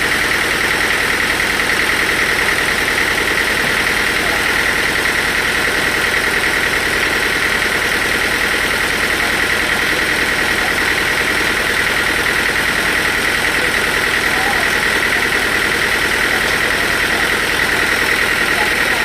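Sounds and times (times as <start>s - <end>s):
high-pitched machine whine: 0.0s - 19.0s
sawmill machinery drone: 0.0s - 19.0s.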